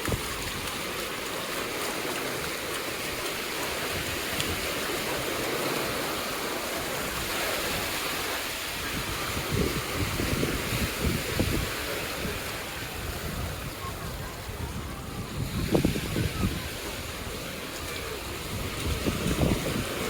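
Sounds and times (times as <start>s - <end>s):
surf washing onto beach: 0.0s - 20.0s.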